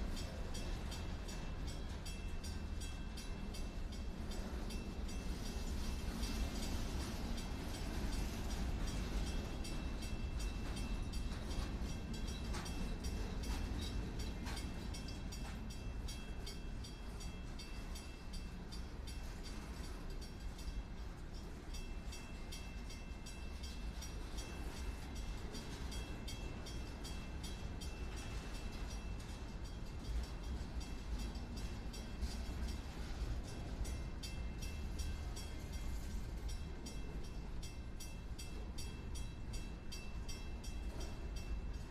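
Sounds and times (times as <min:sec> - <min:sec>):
train cars rumbling: 0:00.0 - 0:41.9
wheels clicking on rails: 0:00.0 - 0:41.9.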